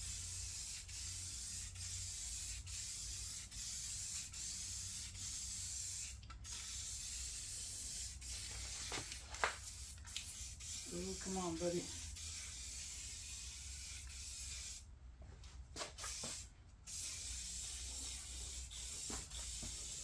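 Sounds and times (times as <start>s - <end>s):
aerosol spray can hissing: 0.0s - 14.9s, 16.0s - 20.0s.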